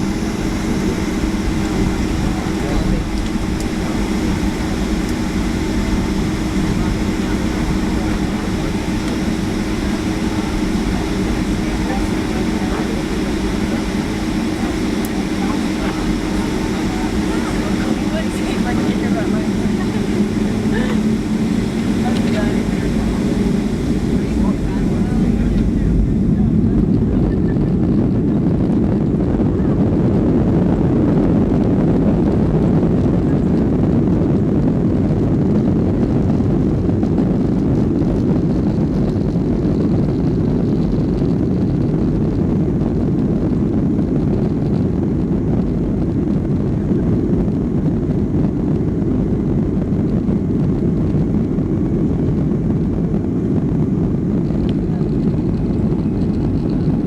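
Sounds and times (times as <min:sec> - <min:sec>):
jet engine rumble in cabin: 0:00.0 - 0:57.0.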